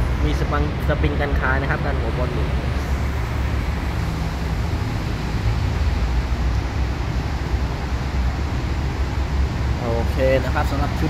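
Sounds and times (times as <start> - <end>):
vehicle rumble with hiss: 0.0 - 11.0.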